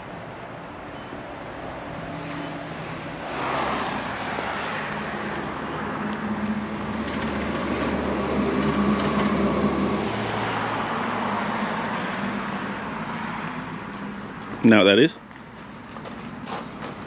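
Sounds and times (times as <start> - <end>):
vehicle passing on road: 0.0 - 17.0.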